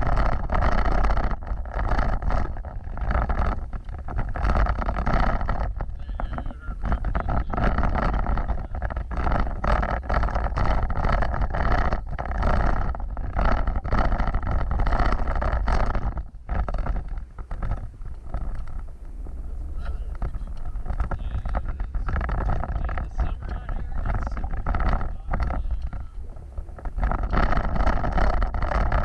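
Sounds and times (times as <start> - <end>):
knocks and rattles: 0.0 - 29.0
off-road vehicle driving: 0.0 - 29.0.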